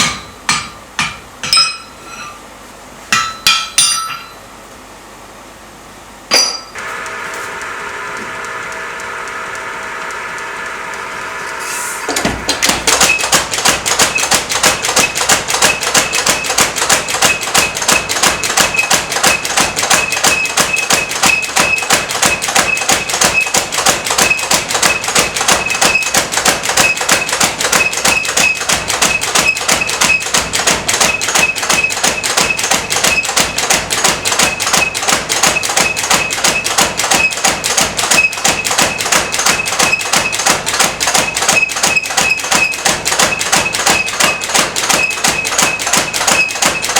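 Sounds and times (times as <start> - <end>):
power hammer striking hot steel: 0.0 - 2.3, 3.1 - 4.4, 6.3 - 7.4, 11.3 - 46.9.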